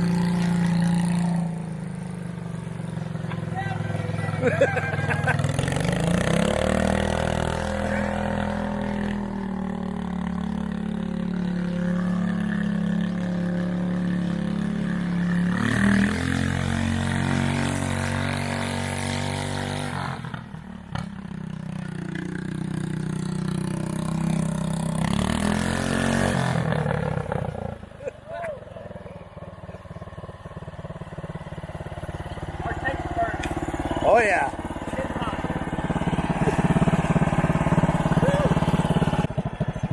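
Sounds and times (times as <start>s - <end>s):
lawn tractor engine running: 0.0s - 19.6s, 21.2s - 28.0s, 28.6s - 39.9s.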